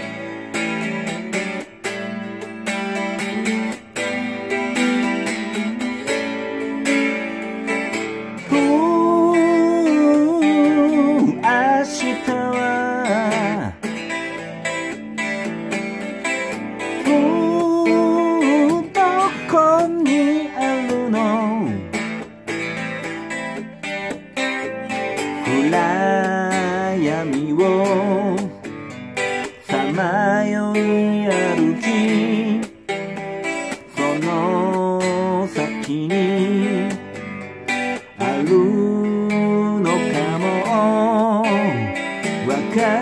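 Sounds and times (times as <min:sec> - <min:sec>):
electric guitar strumming chords: 0:00.0 - 0:43.0
sliding guitar melody: 0:00.0 - 0:43.0.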